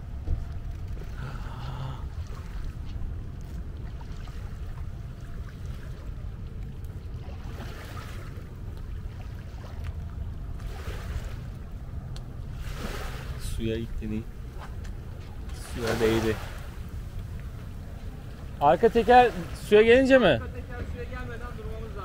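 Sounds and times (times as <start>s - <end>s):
steady low rumble: 0.0s - 19.6s.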